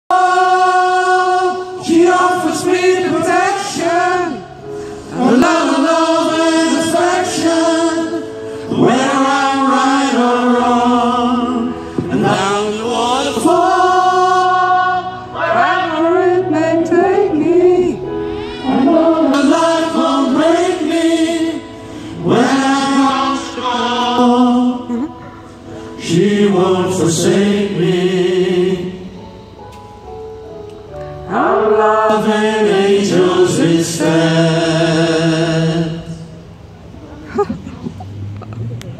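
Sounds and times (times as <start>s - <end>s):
mixed choir singing: 0.1s - 29.3s, 31.2s - 36.6s.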